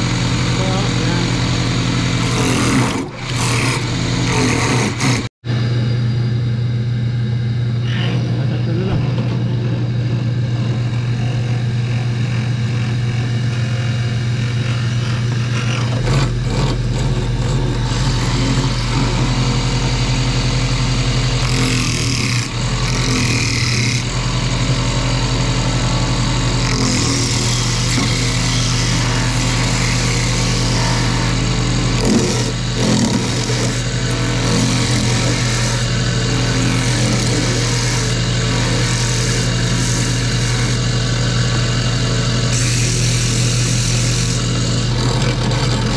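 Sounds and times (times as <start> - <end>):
deep drone: 0.0 - 45.9
metal lathe motor hum: 0.0 - 45.9.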